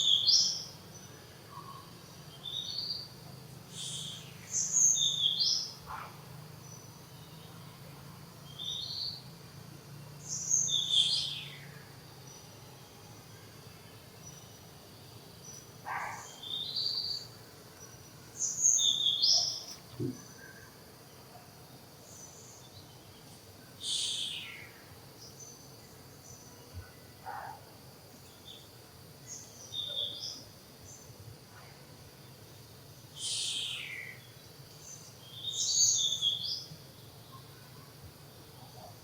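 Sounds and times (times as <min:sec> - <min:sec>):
faint insect drone: 0:00.0 - 0:39.0.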